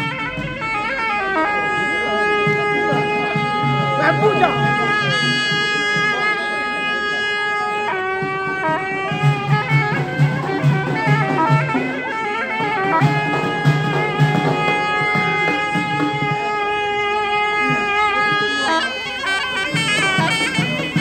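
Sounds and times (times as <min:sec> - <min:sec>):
drum beating quickly: 0:00.0 - 0:21.0
shrill reed pipe melody: 0:00.0 - 0:21.0.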